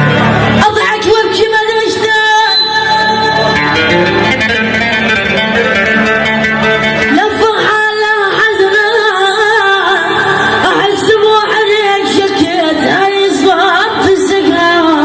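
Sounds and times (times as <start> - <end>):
instrumental backing: 0.0 - 14.7.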